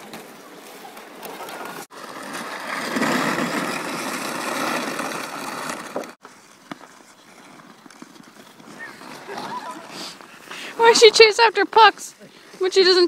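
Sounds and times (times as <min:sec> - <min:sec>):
plastic sled scraping over ice: 0:00.0 - 0:13.0.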